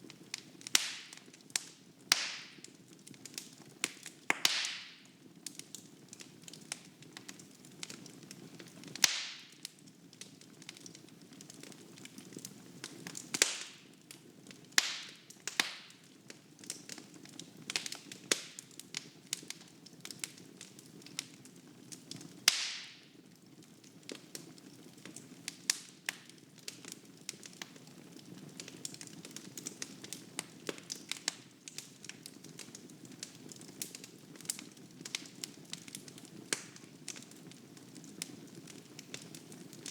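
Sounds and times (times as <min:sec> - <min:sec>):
wood fire crackling: 0:00.0 - 0:39.9
burning logs popping: 0:00.1 - 0:39.9.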